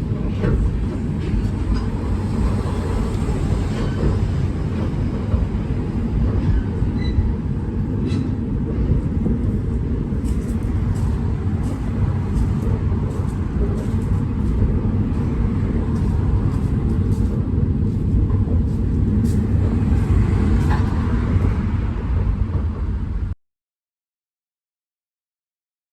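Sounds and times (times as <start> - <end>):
train low rumble: 0.0 - 23.4.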